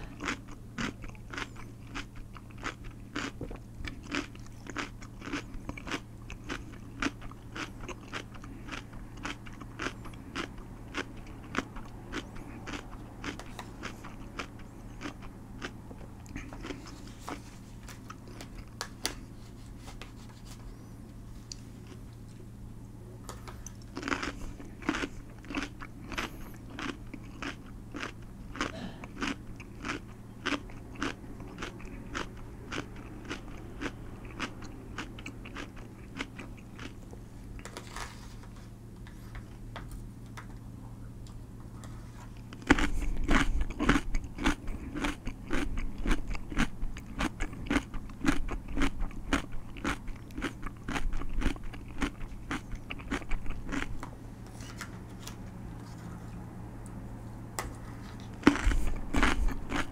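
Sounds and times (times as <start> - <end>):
person chewing crunchy food: 0.0 - 22.4, 23.3 - 40.3, 41.8 - 57.0, 57.6 - 59.9.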